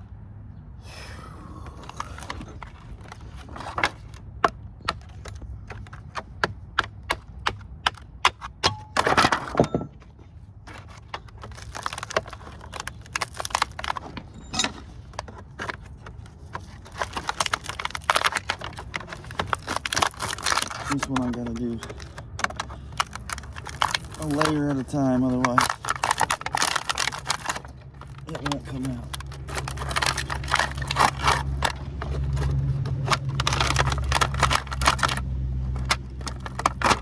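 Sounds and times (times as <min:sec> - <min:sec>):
metallic clinks and knocks: 0:02.0 - 0:37.0.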